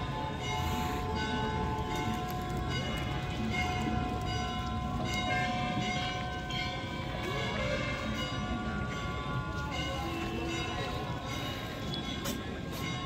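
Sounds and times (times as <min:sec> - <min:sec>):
temple bells ringing: 0:00.0 - 0:13.0.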